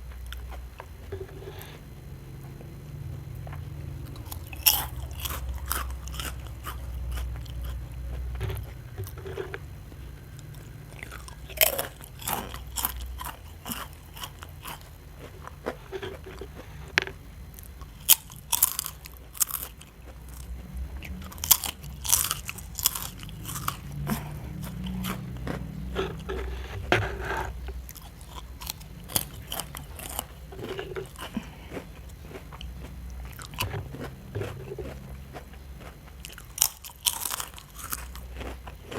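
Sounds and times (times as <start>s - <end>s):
crunchy snack chewing: 3.4s - 38.9s.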